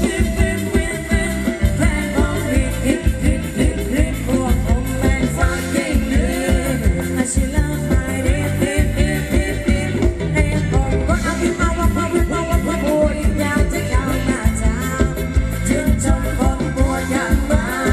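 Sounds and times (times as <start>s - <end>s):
live band playing dance music: 0.0s - 17.9s
person singing: 0.0s - 17.9s.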